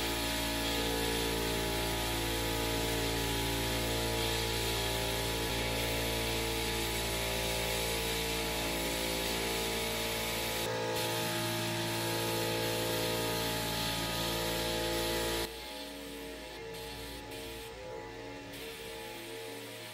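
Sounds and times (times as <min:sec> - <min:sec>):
sandblasting nozzle hissing: 0:00.0 - 0:19.9.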